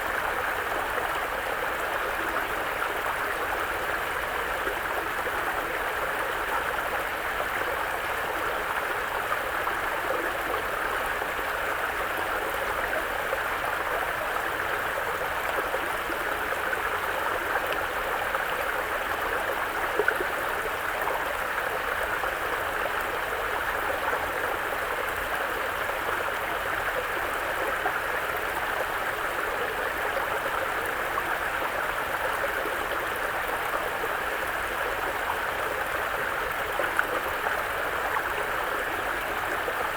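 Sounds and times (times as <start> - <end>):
brook flowing over rocks: 0.0 - 39.9.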